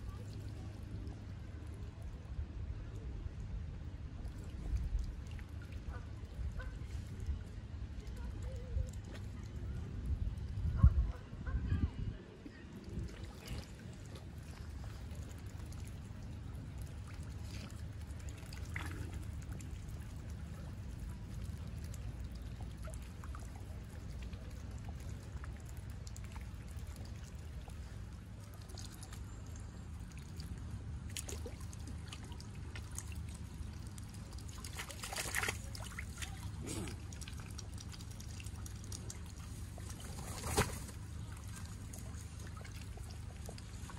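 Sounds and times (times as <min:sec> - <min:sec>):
light water splashing: 0:00.0 - 0:11.5, 0:12.1 - 0:43.9
steady low rumble: 0:00.0 - 0:43.9.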